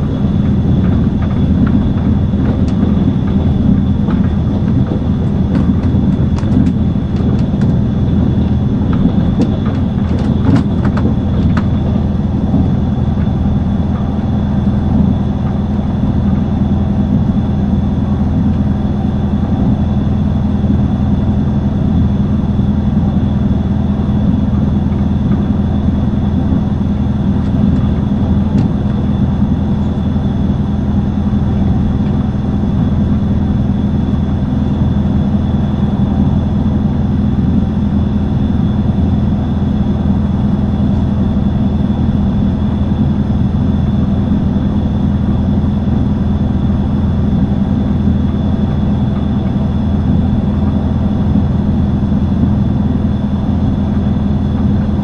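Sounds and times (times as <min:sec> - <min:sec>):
train rumble inside carriage: 0:00.0 - 0:55.0.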